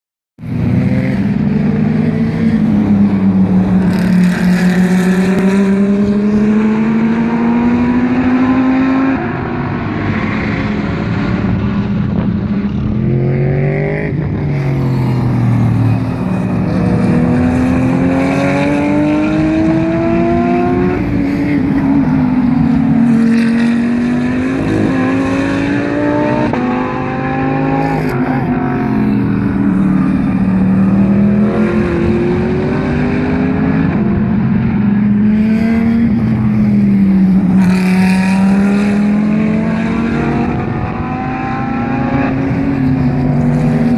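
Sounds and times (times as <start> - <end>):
race car engines at full throttle: 0.4 - 43.9.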